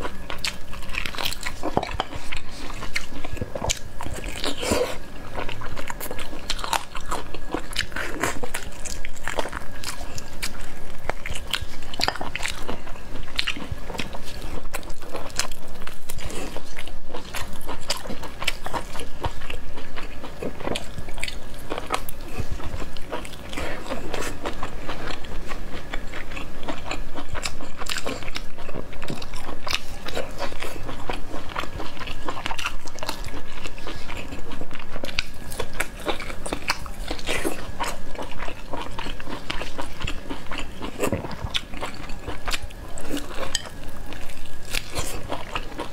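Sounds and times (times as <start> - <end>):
biting and chewing meat: 0.0 - 45.9.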